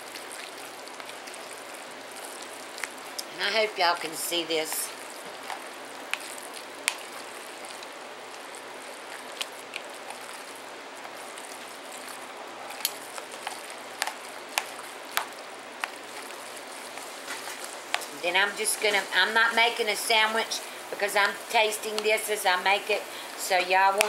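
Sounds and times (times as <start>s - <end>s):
spoon stirring and squishing: 0.0s - 24.0s.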